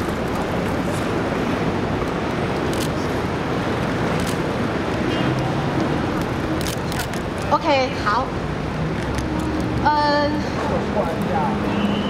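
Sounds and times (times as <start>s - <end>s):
urban traffic rumble: 0.0s - 12.0s.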